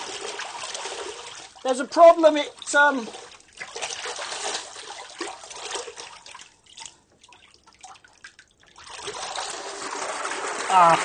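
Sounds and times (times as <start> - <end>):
water dripping: 0.0 - 11.0
water splashing and gurgling: 0.0 - 11.0.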